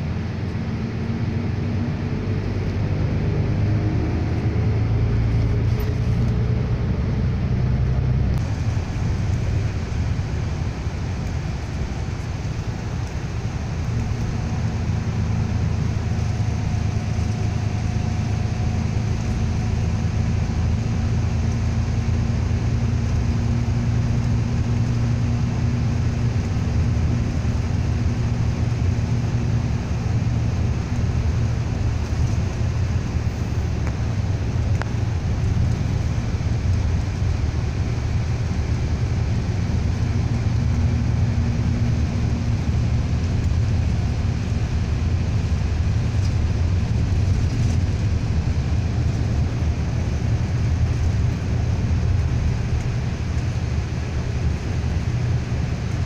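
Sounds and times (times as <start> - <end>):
engine drone inside vehicle: 0.0 - 56.0
tyre rumble on road: 8.3 - 56.0.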